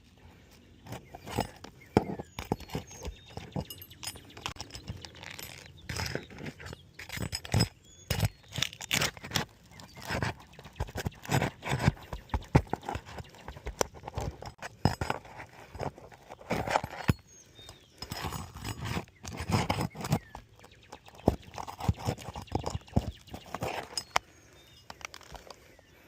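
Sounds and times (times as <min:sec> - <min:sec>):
scraping and rustling on shingles: 0:00.0 - 0:26.0.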